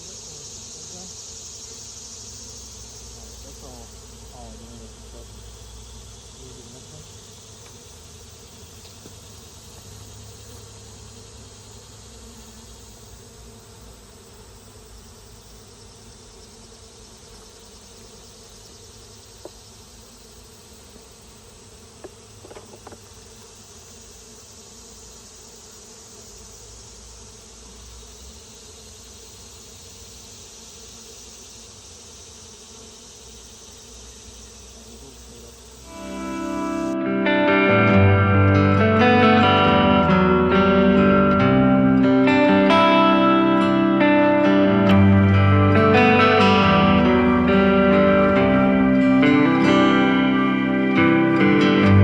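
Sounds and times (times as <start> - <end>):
high insect drone: 0.0 - 52.0
honeybees buzzing: 0.0 - 52.0.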